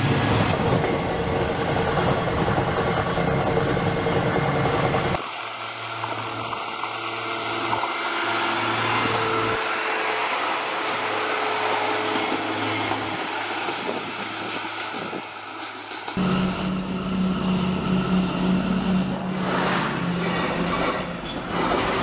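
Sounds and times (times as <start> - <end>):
diesel train engine hum: 0.0 - 22.0
wheel and rail noise: 0.0 - 22.0.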